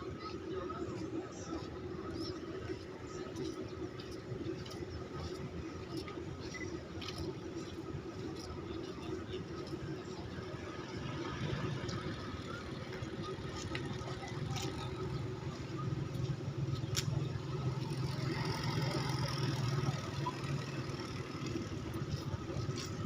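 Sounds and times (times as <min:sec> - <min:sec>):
low engine hum: 0:01.6 - 0:23.0.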